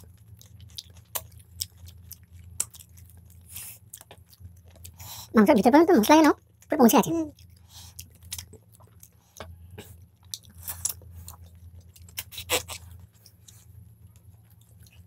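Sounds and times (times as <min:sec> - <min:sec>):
people chewing food: 0:00.0 - 0:06.7, 0:07.3 - 0:15.0
steady low hum: 0:00.0 - 0:15.0.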